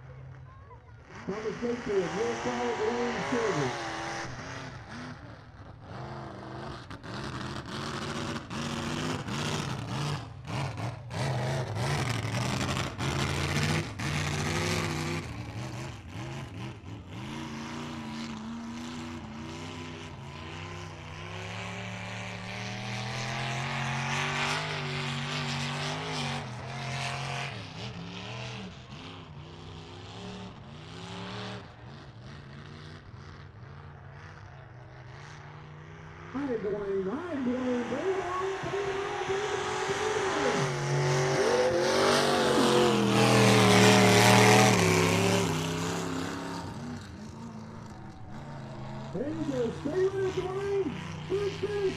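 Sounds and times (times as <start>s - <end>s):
truck engine revving: 1.0s - 51.9s.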